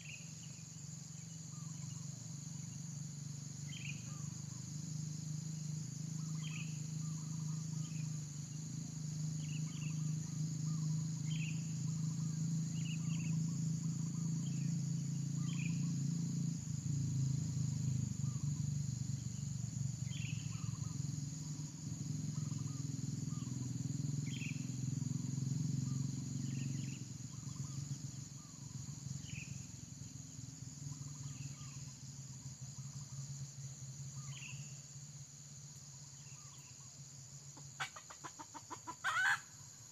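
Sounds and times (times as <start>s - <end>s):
steady low hum: 0.0s - 37.8s.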